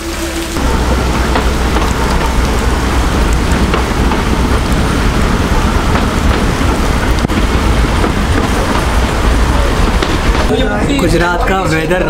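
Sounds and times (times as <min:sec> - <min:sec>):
heavy rain hissing: 0:00.0 - 0:12.0
moving train rumble: 0:00.0 - 0:12.0.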